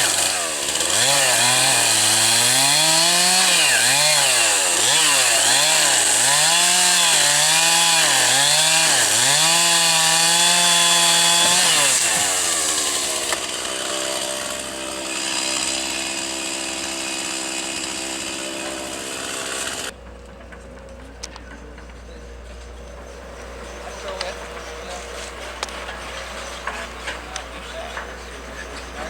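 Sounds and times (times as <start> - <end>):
chainsaw cutting wood: 0.0 - 20.0, 23.4 - 29.0.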